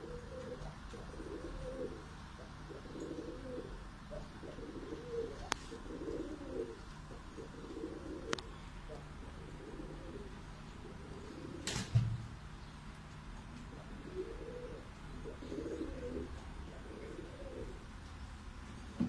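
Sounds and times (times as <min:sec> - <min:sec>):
pigeons cooing: 0:00.0 - 0:12.0, 0:13.0 - 0:19.0.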